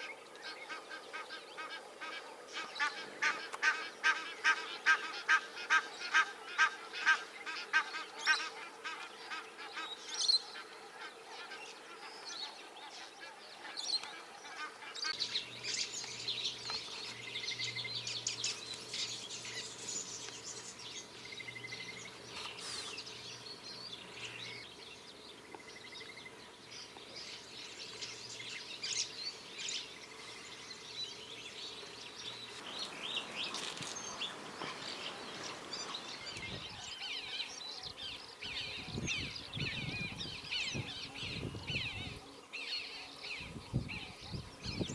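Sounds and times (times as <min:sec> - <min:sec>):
marsh birds chirping and calling: 0:00.0 - 0:44.9.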